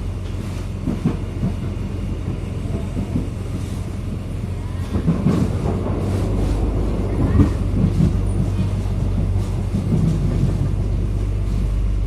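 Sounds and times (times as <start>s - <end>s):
train rumbling along track: 0.0s - 12.0s
train clicks and knocks: 0.1s - 12.0s.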